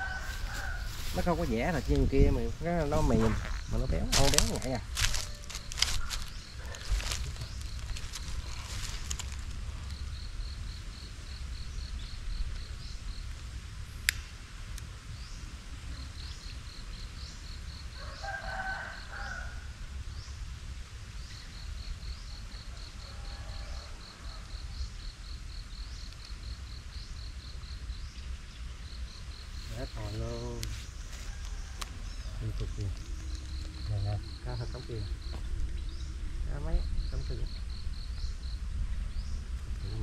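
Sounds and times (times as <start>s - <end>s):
insect pulsed chirping: 0.0s - 40.0s.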